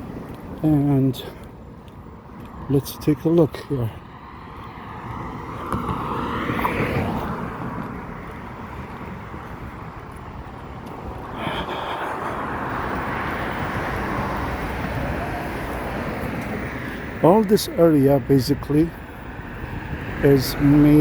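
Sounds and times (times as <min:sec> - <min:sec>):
passing motor traffic: 0:00.0 - 0:21.0
vehicle passing: 0:02.2 - 0:21.0.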